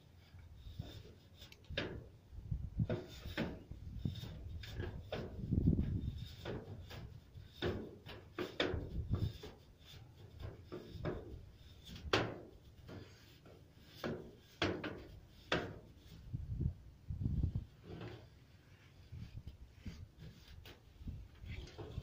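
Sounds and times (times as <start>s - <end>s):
tool scraping ash on roof tiles: 0.1s - 2.1s, 2.8s - 16.3s, 17.7s - 22.0s.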